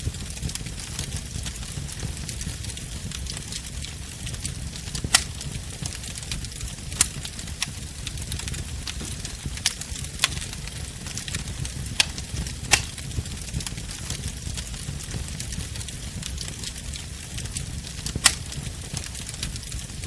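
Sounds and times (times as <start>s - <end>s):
fire crackling and popping: 0.0s - 20.0s
wood bonfire burning: 0.0s - 20.0s.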